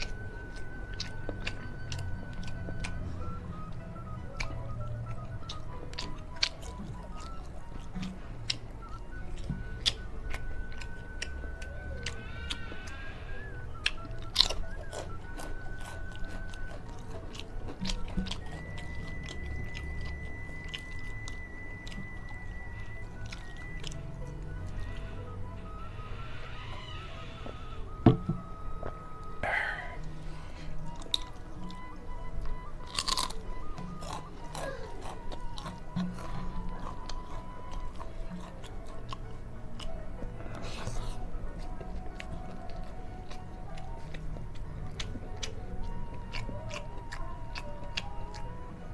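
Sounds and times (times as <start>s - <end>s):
cracker crunching: 0.0s - 25.8s, 26.4s - 48.9s
background music: 0.0s - 48.9s
person chewing food: 0.0s - 48.9s.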